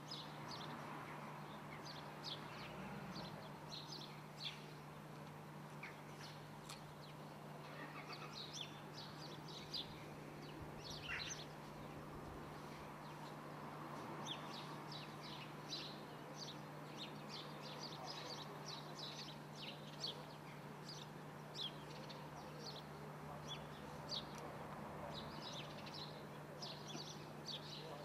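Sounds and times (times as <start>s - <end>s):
small birds chirping: 0.0s - 13.4s, 14.2s - 28.0s.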